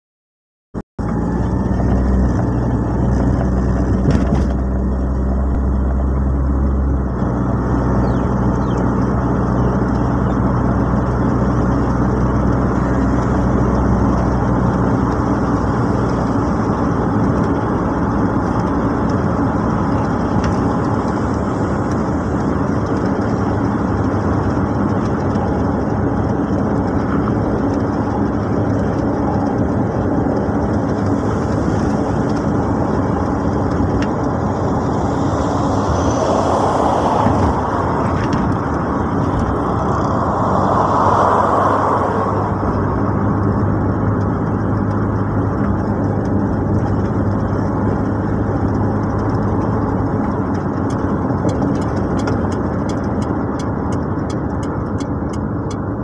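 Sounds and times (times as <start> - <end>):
car engine hum: 1.0 - 56.0
tyre and road rumble: 1.0 - 56.0.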